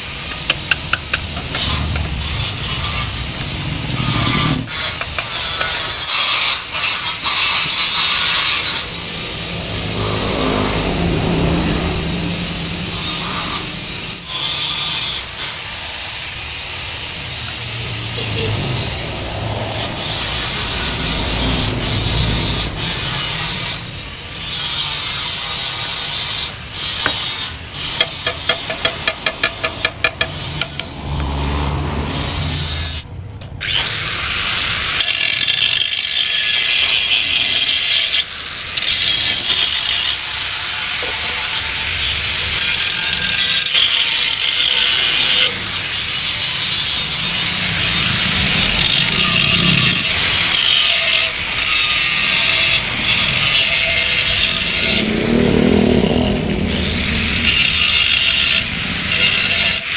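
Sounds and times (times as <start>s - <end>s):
harsh rasping sawing on metal: 0.2s - 11.8s, 18.2s - 33.0s, 33.6s - 59.9s.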